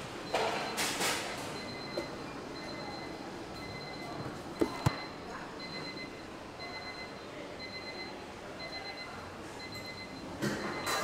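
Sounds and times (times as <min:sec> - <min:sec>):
kitchen background noise: 0:00.0 - 0:11.0.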